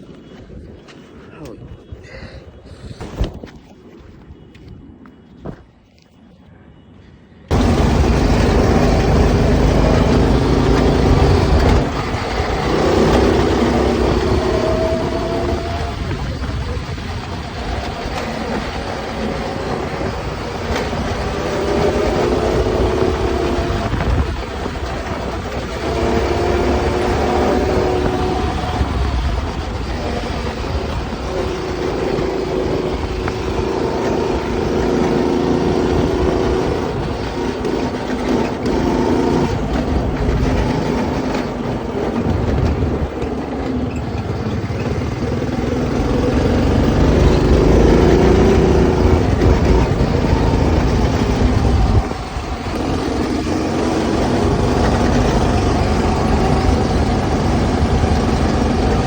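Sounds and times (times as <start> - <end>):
wind on microphone: 0.0 - 6.0, 7.5 - 59.0
go-kart engine revving: 7.5 - 59.0.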